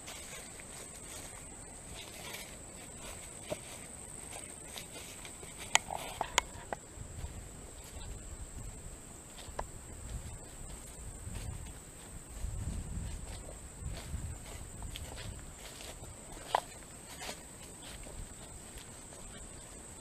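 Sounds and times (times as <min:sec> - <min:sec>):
footsteps through brush: 0:00.0 - 0:20.0
insects droning: 0:00.0 - 0:20.0.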